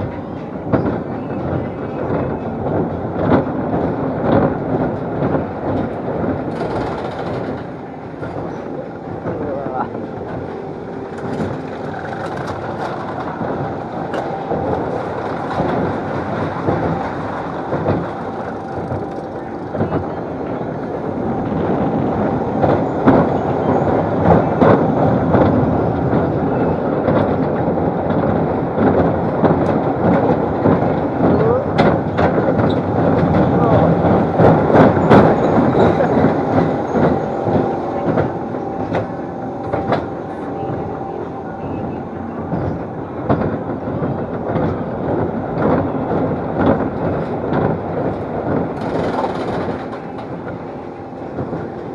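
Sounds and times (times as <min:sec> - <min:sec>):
ride cars rumbling on track: 0:00.0 - 0:51.9.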